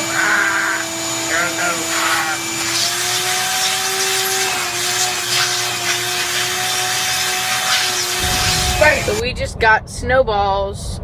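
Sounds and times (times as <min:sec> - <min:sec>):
vacuum hose motor whining: 0:00.0 - 0:09.2.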